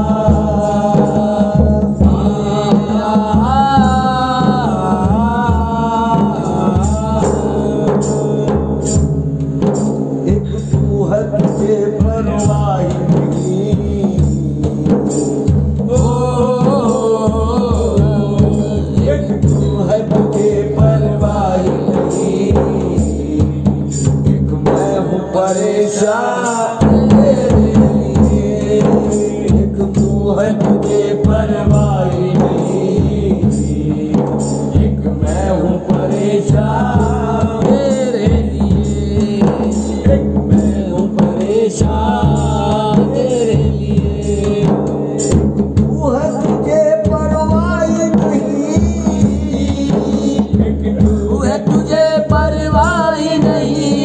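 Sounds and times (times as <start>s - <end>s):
frame drum and hand drums: 0.0s - 54.0s.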